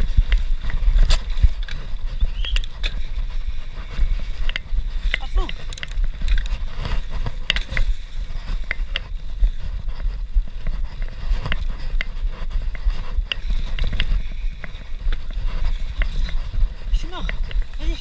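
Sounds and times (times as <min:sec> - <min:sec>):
bike clicking and rattling: 0:00.0 - 0:18.0
wind and trail rumble: 0:00.0 - 0:18.0.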